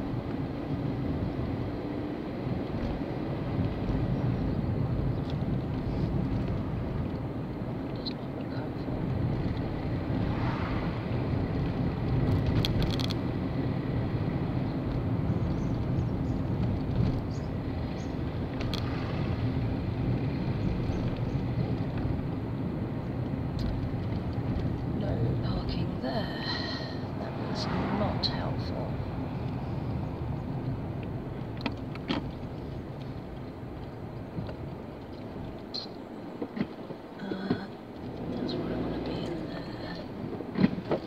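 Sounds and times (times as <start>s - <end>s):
car engine and road noise: 0.0s - 41.0s.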